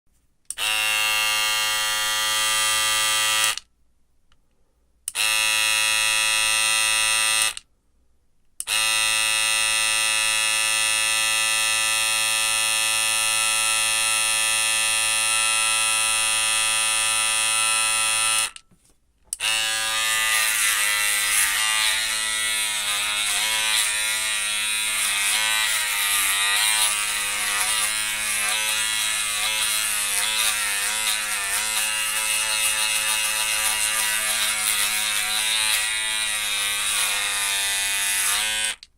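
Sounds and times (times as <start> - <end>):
shaver cutting hair: 0.5 - 3.6, 5.1 - 7.6, 8.7 - 18.6, 19.4 - 38.9
electric shaver buzzing: 0.6 - 3.6, 5.1 - 7.6, 8.6 - 18.6, 19.4 - 38.9.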